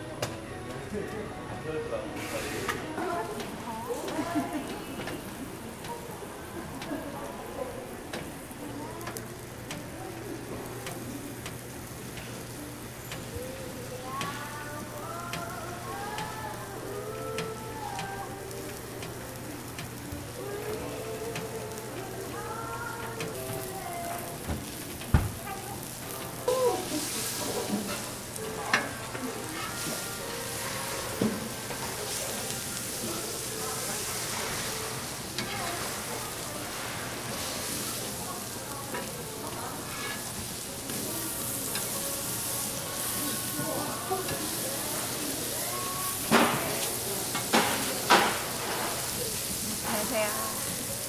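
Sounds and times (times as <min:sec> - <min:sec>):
food sizzling on a griddle: 0:01.8 - 0:51.0.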